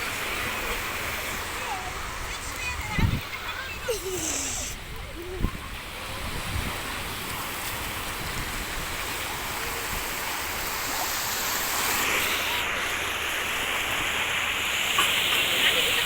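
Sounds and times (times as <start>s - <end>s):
sea waves washing on beach: 0.0s - 16.0s.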